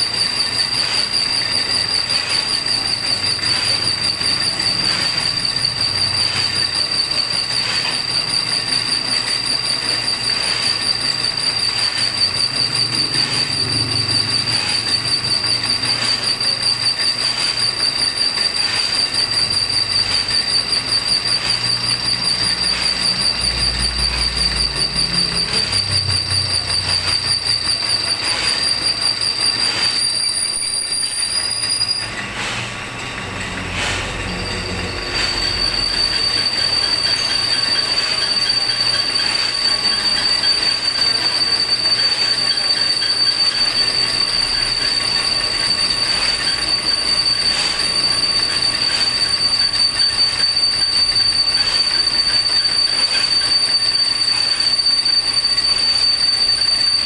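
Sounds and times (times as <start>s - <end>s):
cutting tool high-pitched squeal: 0.0s - 57.0s
metal lathe machining noise: 0.0s - 57.0s.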